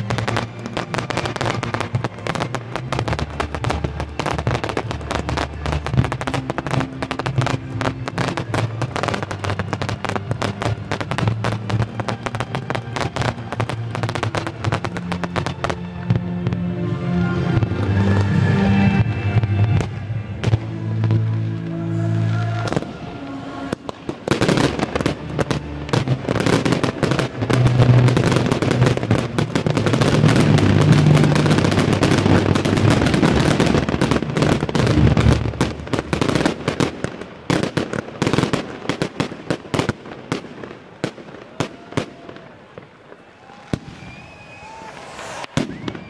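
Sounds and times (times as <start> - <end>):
fireworks bangs and crackling: 0.0 - 46.0.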